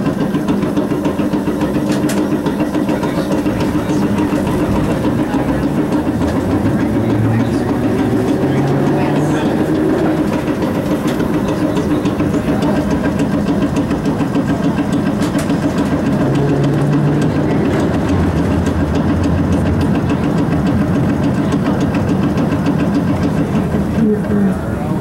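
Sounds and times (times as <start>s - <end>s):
streetcar rumbling and rattling: 0.0s - 25.0s
deep hum: 1.5s - 25.0s.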